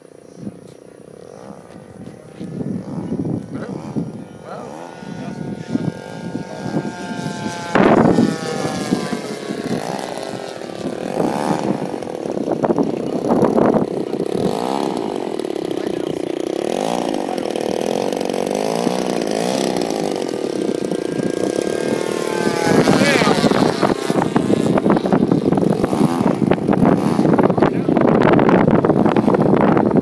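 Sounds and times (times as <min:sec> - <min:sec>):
model plane engine running: 0:00.0 - 0:30.0.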